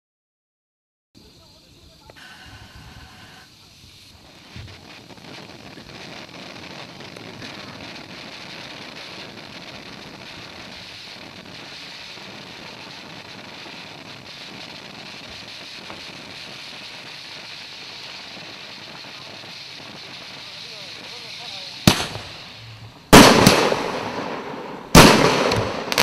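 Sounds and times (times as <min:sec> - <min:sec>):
firework fountain hissing: 0:01.2 - 0:26.0.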